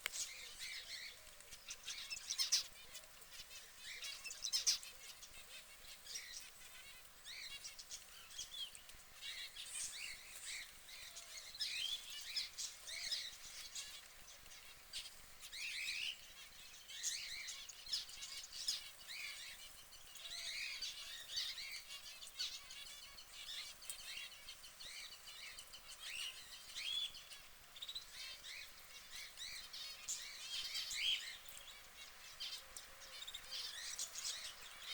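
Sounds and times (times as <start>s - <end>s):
canaries chirping: 0.0s - 34.9s.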